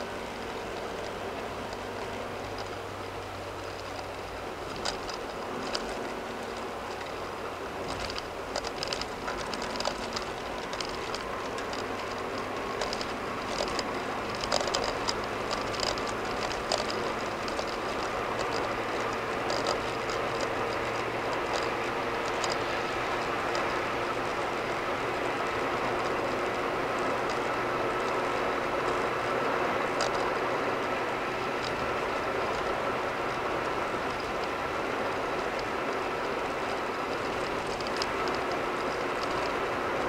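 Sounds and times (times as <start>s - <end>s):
low engine hum: 0.0s - 40.0s
light ticks: 0.3s - 40.0s
tyres rolling on concrete: 0.4s - 40.0s.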